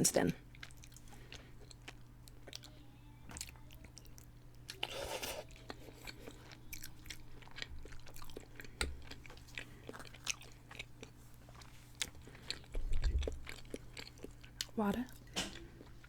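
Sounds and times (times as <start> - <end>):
person chewing food: 0.4 - 2.8, 3.4 - 16.0.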